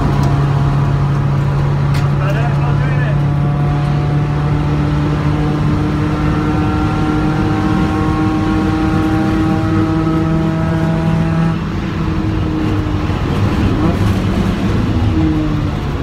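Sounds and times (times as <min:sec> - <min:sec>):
car engine revving: 0:00.0 - 0:16.0
road and wind noise: 0:00.0 - 0:16.0.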